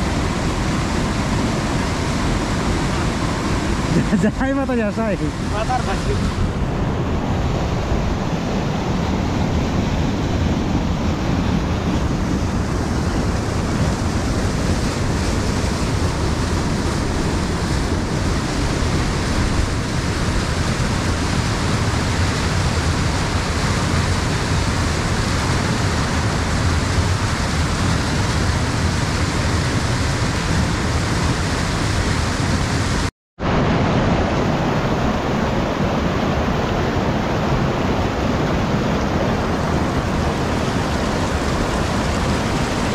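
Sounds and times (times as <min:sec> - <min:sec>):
river rushing over boulders: 0:00.0 - 0:42.9.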